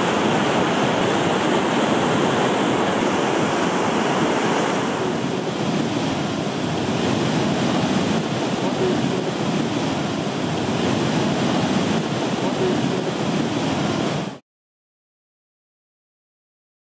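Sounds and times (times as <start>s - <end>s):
river rushing down cascade: 0.0s - 14.4s.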